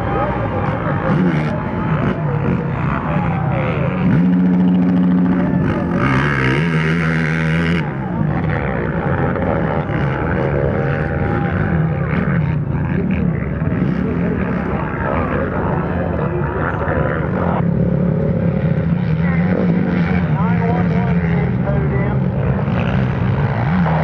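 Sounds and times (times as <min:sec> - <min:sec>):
quad engines revving: 0:00.0 - 0:24.0
spectators' voices: 0:00.0 - 0:24.0.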